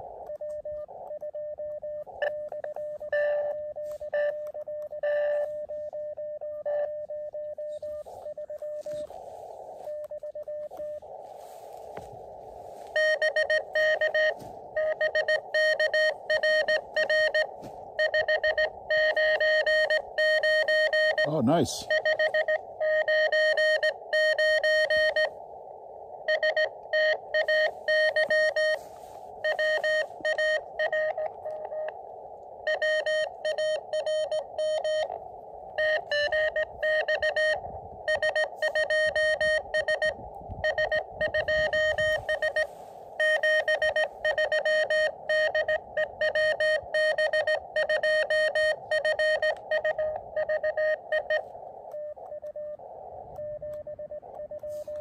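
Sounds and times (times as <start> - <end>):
receiver hiss: 0.0 - 55.0
morse code tone: 0.4 - 12.0, 12.7 - 25.3, 26.2 - 31.9, 32.6 - 35.1, 35.8 - 52.8.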